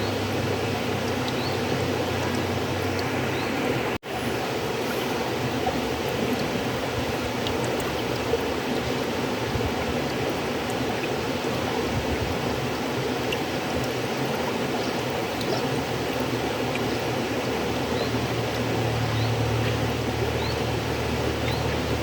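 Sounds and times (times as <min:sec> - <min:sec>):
river water rushing: 0:00.0 - 0:22.0
small splashes and trickles: 0:00.0 - 0:22.0.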